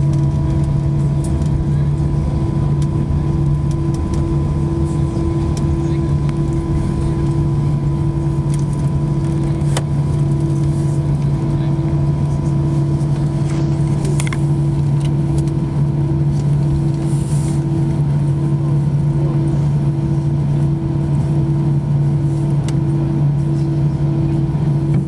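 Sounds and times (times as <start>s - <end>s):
aircraft cabin engine drone: 0.0s - 25.0s.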